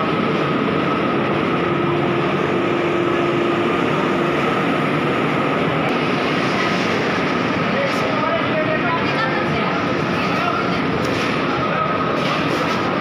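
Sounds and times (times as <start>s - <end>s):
thin steady whine: 0.0s - 12.2s
electric train hum and hiss: 0.0s - 13.0s.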